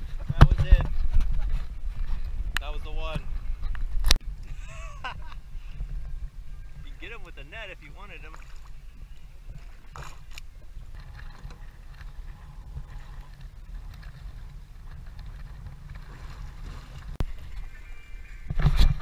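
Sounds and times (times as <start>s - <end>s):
water against boat hull: 0.0s - 19.0s
wind on microphone: 0.0s - 19.0s.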